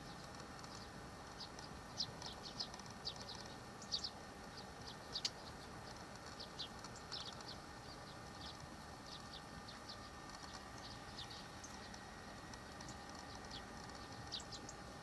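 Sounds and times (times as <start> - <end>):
faint steady hum: 0.0 - 15.0
small birds chirping: 0.0 - 15.0.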